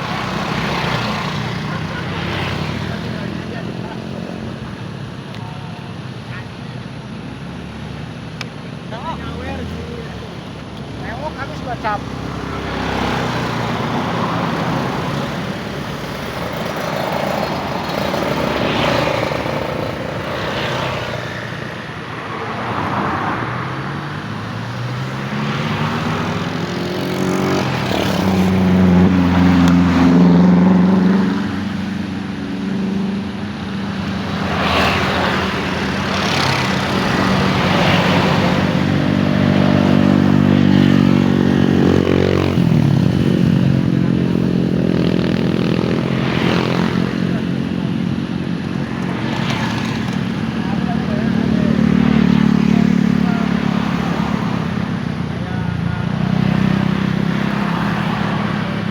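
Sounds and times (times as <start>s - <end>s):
vehicles passing: 0.0s - 58.9s.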